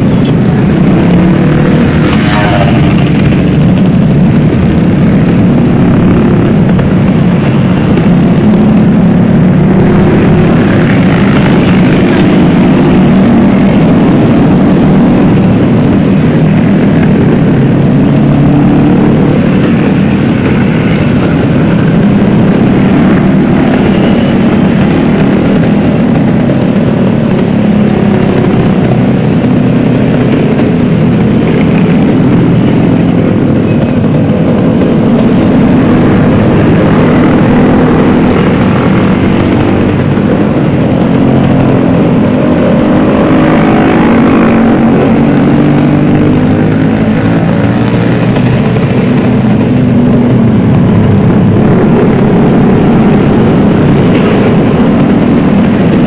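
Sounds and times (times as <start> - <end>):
motorcycle engines running: 0.0 - 56.0.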